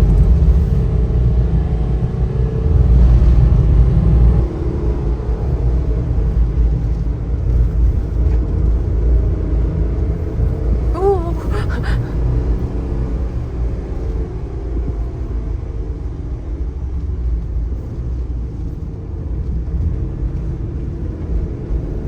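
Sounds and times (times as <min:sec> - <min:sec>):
tyres rumbling on road: 0:00.0 - 0:22.0.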